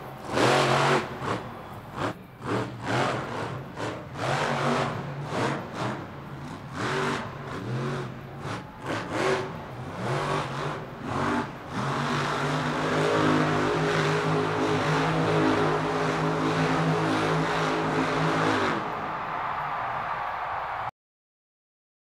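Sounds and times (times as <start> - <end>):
truck engine revving: 0.0 - 19.4.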